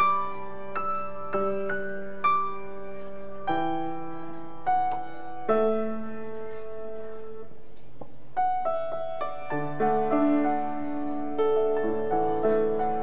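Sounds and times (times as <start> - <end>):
grand piano playing: 0.0 - 7.6, 8.4 - 13.0.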